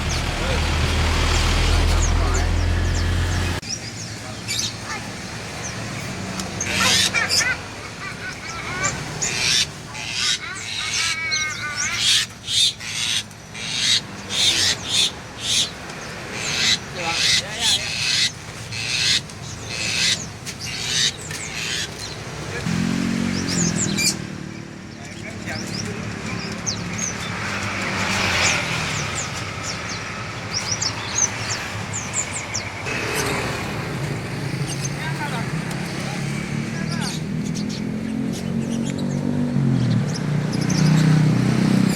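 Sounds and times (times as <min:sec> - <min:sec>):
caged songbirds chattering: 0:00.0 - 0:41.9
low traffic hum: 0:00.0 - 0:41.9.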